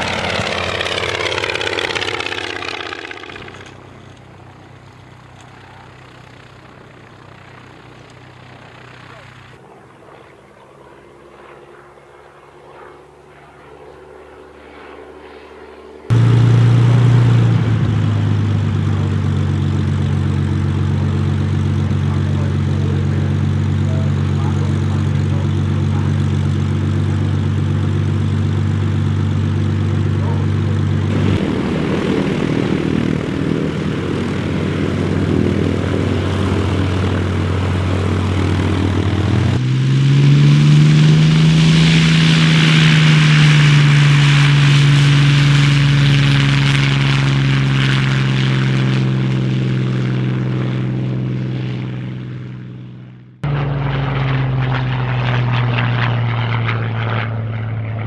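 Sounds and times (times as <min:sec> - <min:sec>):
propeller plane engine running: 0:00.0 - 0:58.0.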